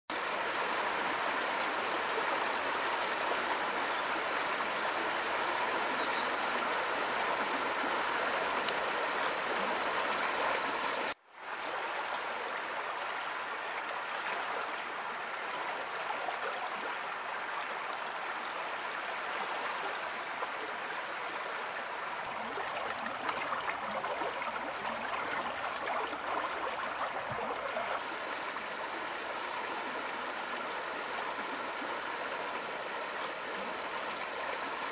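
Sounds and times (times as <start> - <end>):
stream burbling over stones: 0.1 - 34.9.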